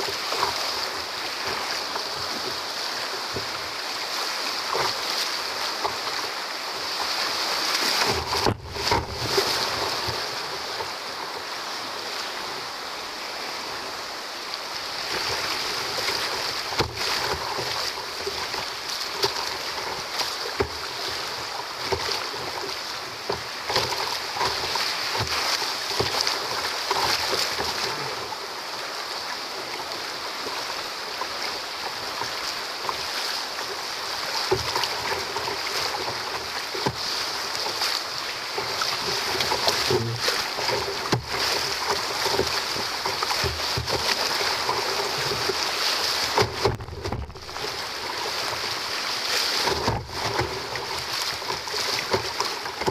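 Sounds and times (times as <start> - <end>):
rapids rushing: 0.0 - 52.9
waves splashing on kayak: 0.0 - 52.9.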